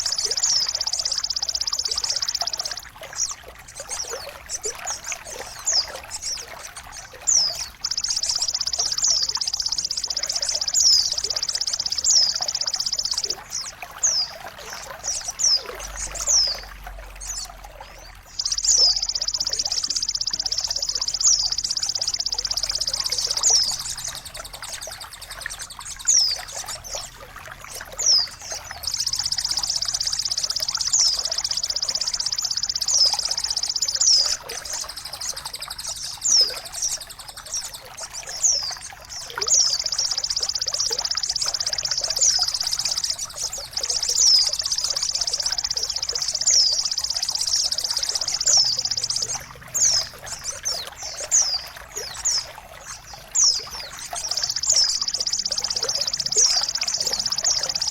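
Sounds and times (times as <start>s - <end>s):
bird chirps sweeping downward: 0.0s - 57.9s
high buzzing bird trill: 0.0s - 57.9s
trickling water: 0.0s - 57.9s.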